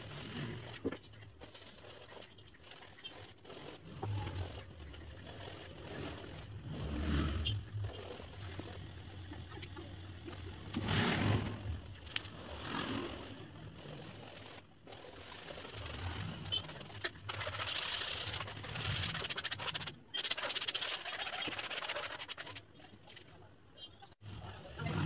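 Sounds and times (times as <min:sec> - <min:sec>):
brush scrubbing canvas: 0:00.0 - 0:09.3, 0:11.5 - 0:23.3.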